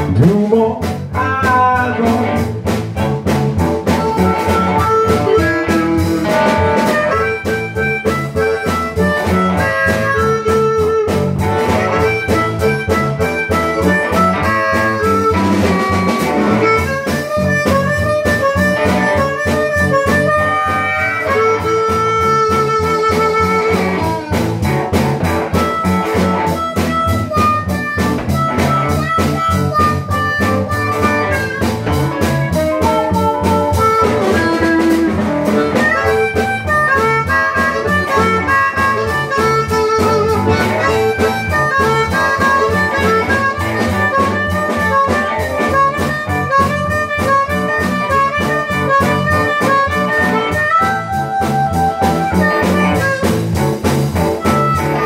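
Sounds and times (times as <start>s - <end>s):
blues band playing: 0.0s - 55.0s
harmonica bending notes: 0.0s - 55.0s
steady drum beat: 0.0s - 55.0s.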